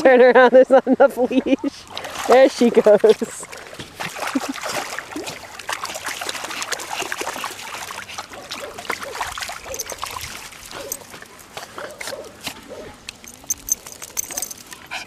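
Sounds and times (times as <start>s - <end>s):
dogs splashing through shallow water: 1.4s - 15.0s
trickling water: 1.8s - 15.0s.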